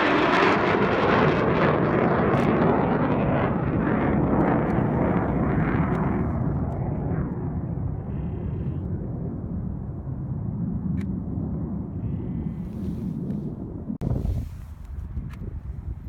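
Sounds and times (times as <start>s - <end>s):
jet engines rumbling past: 0.0s - 16.0s.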